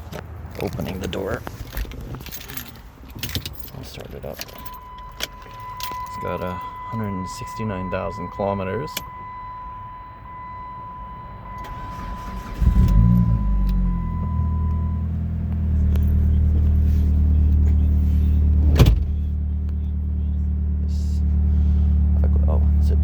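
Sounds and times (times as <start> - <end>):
car engine cranking and idling: 0.0 - 23.0.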